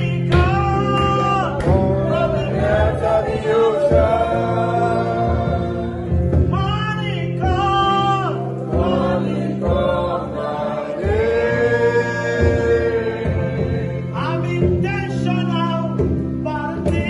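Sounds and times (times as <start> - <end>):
instrumental backing: 0.0 - 17.0
voices singing gospel: 0.0 - 17.0.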